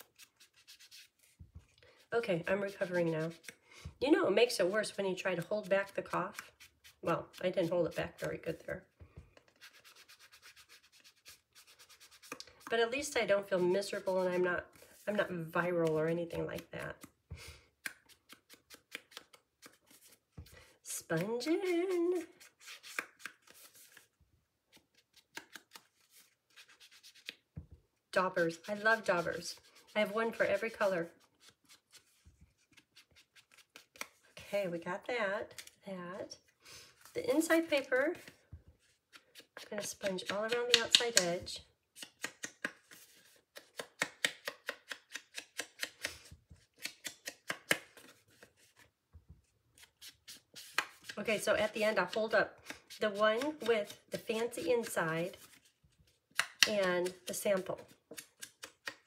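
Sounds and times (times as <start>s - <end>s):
sponge patting on card: 0.0s - 1.8s, 2.4s - 3.6s, 4.6s - 24.1s, 24.7s - 34.3s, 37.3s - 41.4s, 42.0s - 48.8s, 49.8s - 55.7s.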